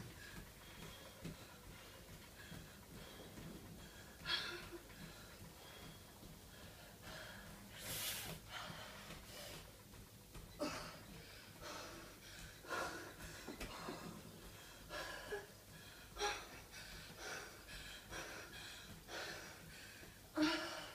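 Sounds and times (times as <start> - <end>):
woman breathing hard and gasping: 0.0 - 9.7, 10.5 - 20.9.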